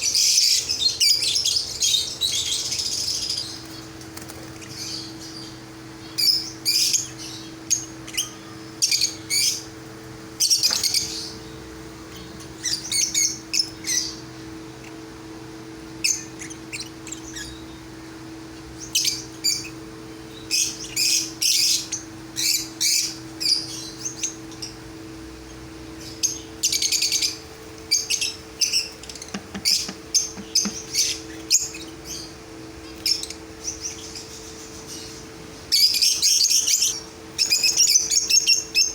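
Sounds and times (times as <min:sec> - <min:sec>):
birds squawking: 0:00.0 - 0:38.9
small birds chirping: 0:00.0 - 0:38.9
steady low hum: 0:00.0 - 0:38.9.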